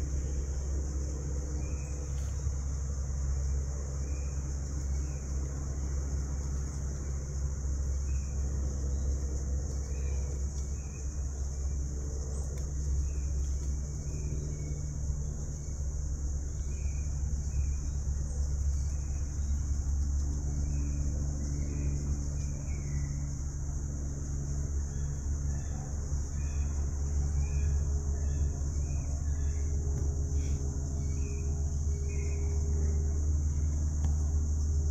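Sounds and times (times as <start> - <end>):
distant road traffic rumble: 0.0 - 34.9.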